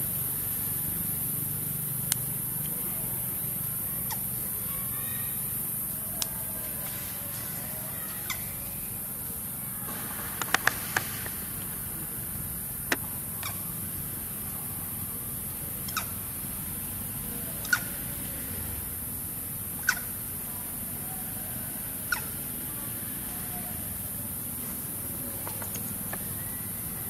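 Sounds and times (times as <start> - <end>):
forest ambient hiss: 0.0 - 27.0.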